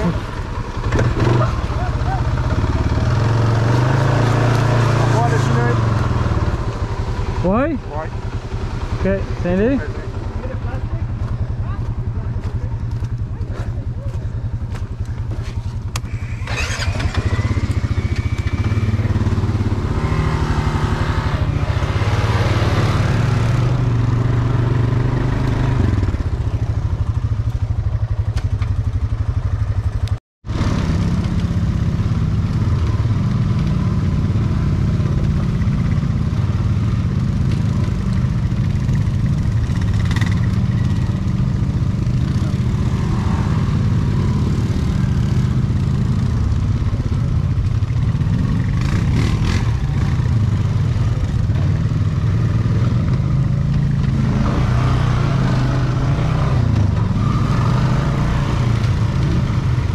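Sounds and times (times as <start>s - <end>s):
atv engine driven hard: 0.0s - 59.9s.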